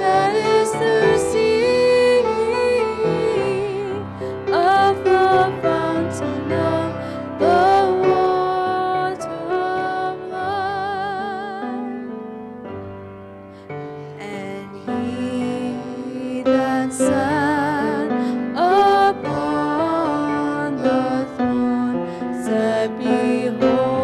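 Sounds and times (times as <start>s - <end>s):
woman singing into microphone: 0.0s - 12.1s, 14.2s - 24.0s.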